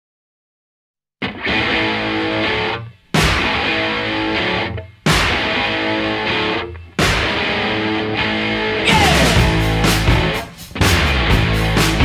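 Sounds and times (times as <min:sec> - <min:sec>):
guitar-led music: 0:01.2 - 0:12.0.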